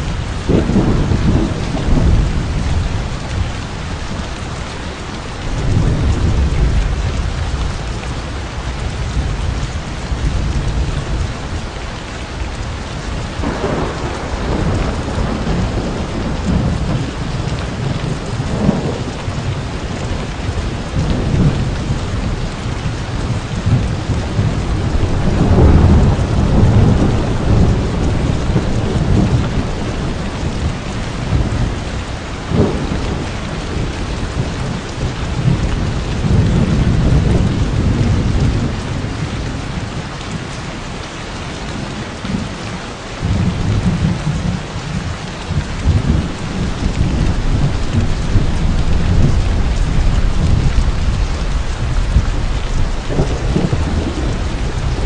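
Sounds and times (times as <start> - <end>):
thunder rumbling: 0.0 - 40.9, 41.6 - 55.0
heavy rain falling: 0.0 - 55.0.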